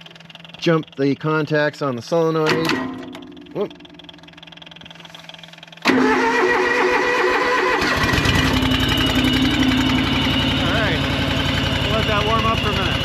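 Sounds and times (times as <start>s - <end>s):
tractor engine running: 0.0s - 13.0s
tractor starter cranking: 0.0s - 13.0s.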